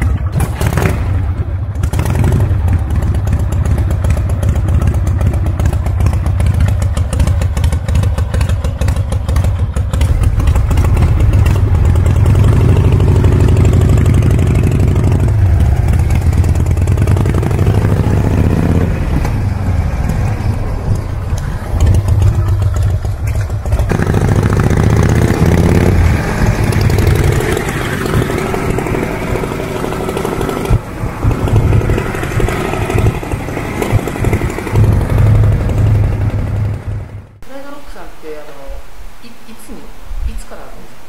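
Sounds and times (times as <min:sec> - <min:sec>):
motorcycle engine revving: 0:00.0 - 0:37.4.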